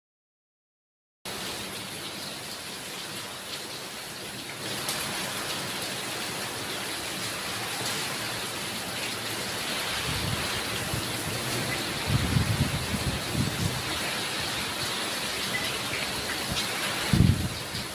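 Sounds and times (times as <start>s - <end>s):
steady rain falling: 1.3s - 17.9s.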